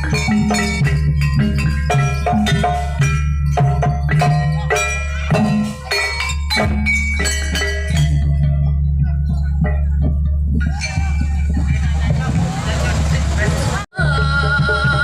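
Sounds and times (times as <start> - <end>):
metallophone notes: 0.0 - 15.0
steady low bass: 0.0 - 15.0.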